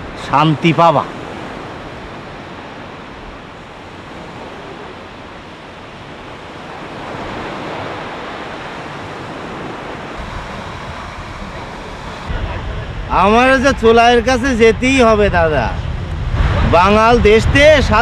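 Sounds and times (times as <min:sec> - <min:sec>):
waves washing on shore: 0:00.0 - 0:18.0.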